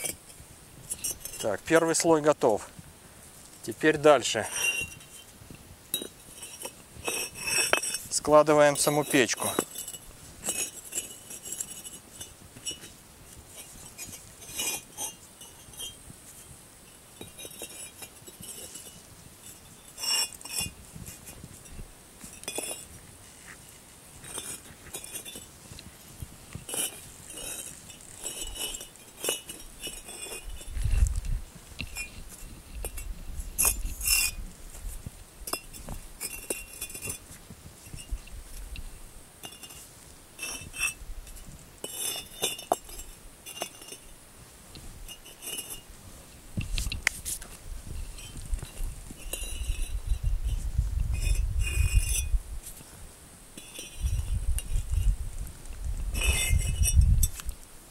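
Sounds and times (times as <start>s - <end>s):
bricks clinking and knocking: 0.0s - 0.3s, 0.9s - 2.6s, 3.8s - 5.3s, 5.9s - 12.9s, 13.5s - 16.5s, 17.2s - 23.0s, 24.2s - 25.9s, 26.5s - 31.2s, 31.8s - 44.1s, 45.1s - 45.9s, 46.6s - 50.6s, 51.2s - 52.4s, 53.6s - 55.1s, 56.2s - 57.5s.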